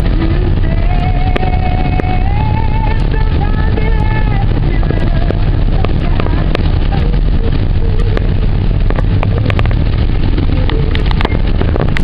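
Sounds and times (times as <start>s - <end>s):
raindrops ticking on windshield: 0.0s - 12.0s
road and engine rumble: 0.0s - 12.0s.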